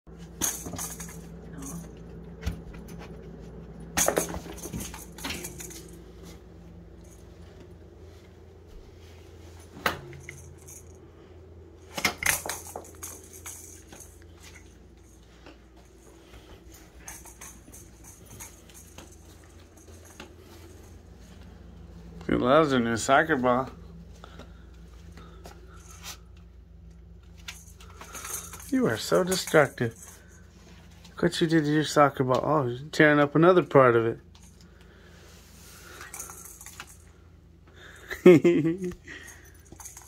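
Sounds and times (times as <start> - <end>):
steady low hum: 0.1 - 40.0.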